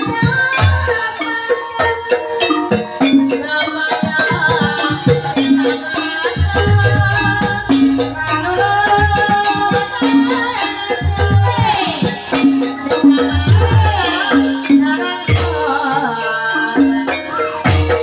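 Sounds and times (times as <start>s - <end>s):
drum strokes: 0.0s - 16.1s
high jingling percussion: 0.0s - 18.0s
metallophones playing melody: 0.0s - 18.0s.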